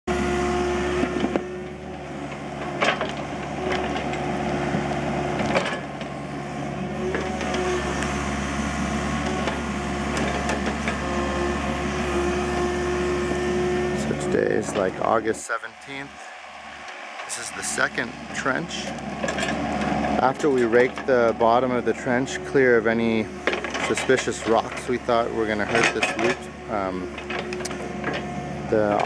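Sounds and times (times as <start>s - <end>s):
excavator engine hum: 0.1s - 29.0s.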